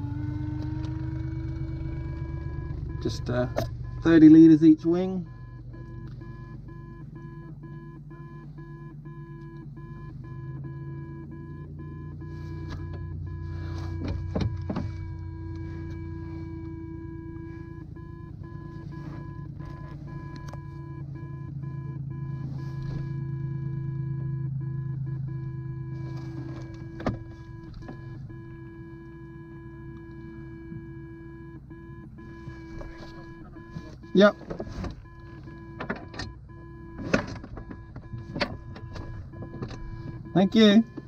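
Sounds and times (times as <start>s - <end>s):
propeller plane engine running: 0.0s - 41.0s.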